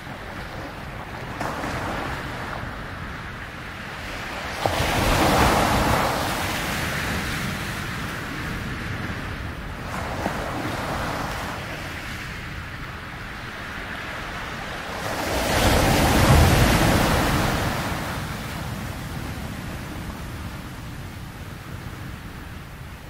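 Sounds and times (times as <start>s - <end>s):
ocean waves washing: 0.0s - 23.0s.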